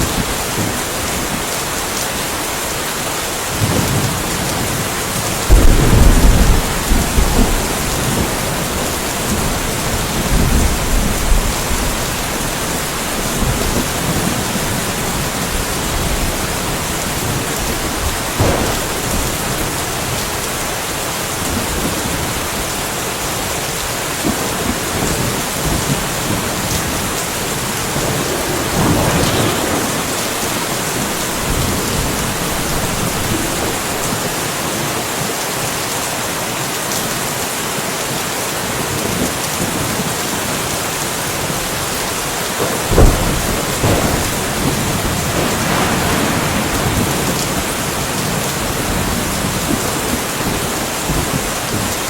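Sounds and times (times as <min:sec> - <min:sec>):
steady rain falling: 0:00.0 - 0:52.0
thunder rumbling: 0:03.5 - 0:35.0, 0:41.4 - 0:52.0.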